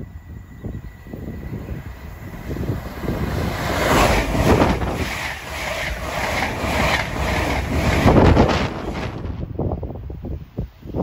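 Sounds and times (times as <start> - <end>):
train passing at speed: 0.0 - 10.8.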